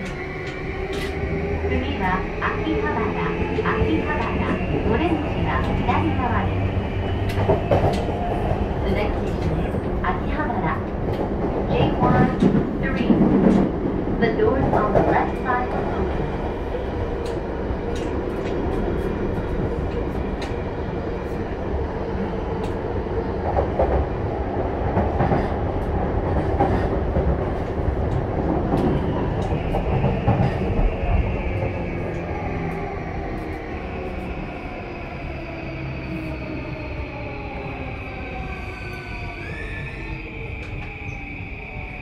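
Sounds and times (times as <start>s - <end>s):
train wheel and rail rumble: 0.0s - 42.0s.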